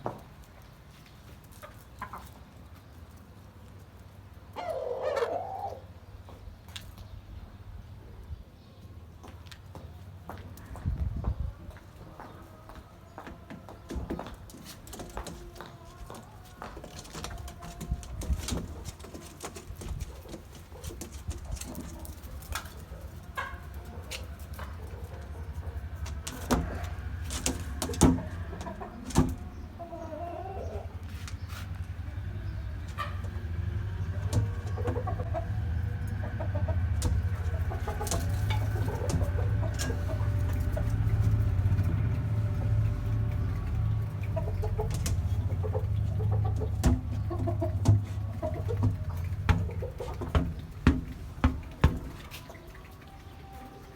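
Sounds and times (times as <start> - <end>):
chickens clucking: 0.0 - 7.1, 10.8 - 53.9.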